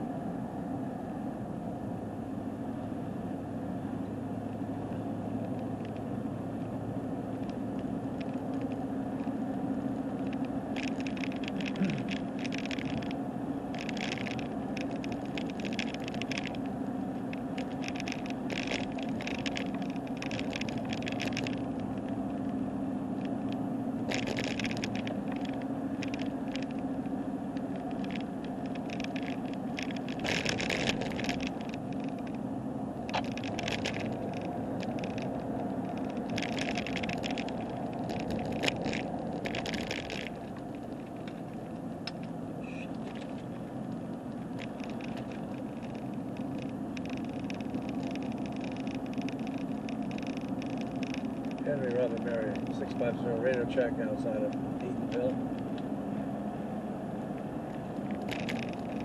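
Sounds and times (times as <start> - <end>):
car driving on road: 0.0 - 59.0
camera rattling: 5.3 - 59.0.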